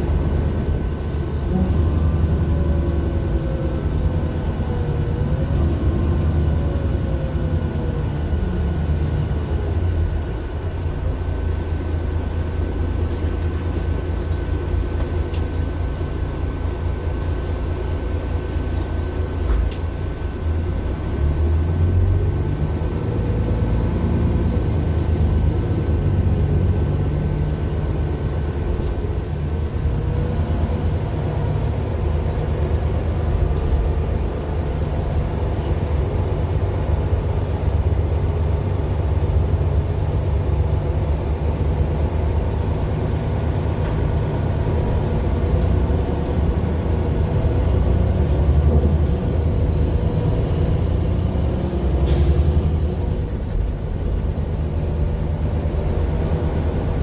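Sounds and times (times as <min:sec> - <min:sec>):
bus diesel engine from inside: 0:00.0 - 0:57.0.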